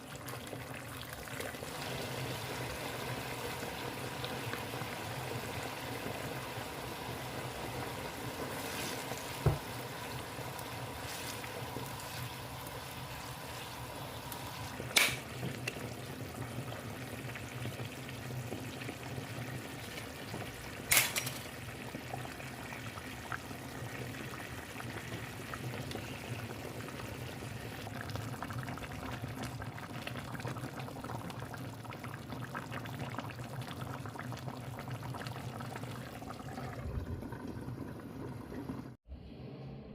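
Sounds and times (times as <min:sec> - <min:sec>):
liquid bubbling and pouring: 0:00.0 - 0:39.0.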